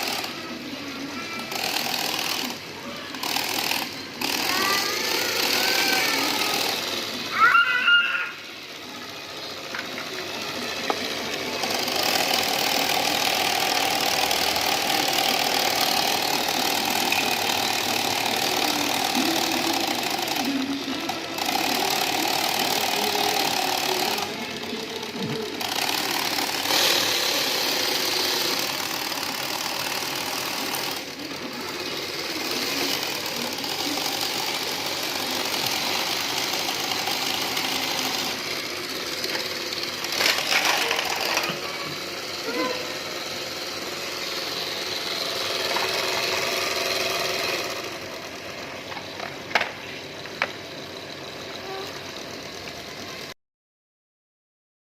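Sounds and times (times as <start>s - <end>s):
diesel locomotive engine running: 0.0s - 53.4s.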